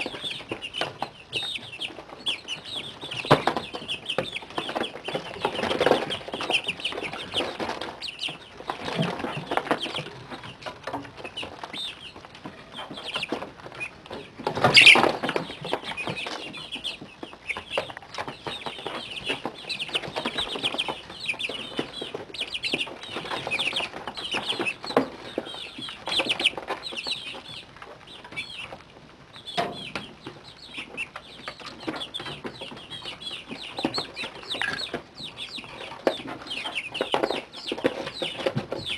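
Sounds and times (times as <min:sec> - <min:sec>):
chicks peeping and chirping: 0:00.0 - 0:38.9.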